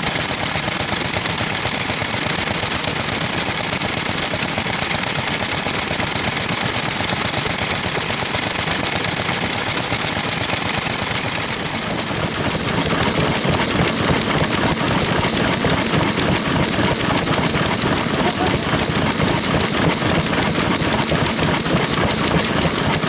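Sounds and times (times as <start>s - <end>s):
stationary engine popping: 0.0s - 23.0s.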